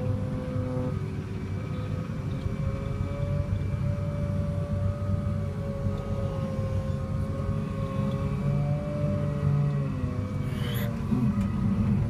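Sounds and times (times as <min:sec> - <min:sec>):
diesel engine rumble: 0:00.0 - 0:12.0
engine whine: 0:00.0 - 0:12.0.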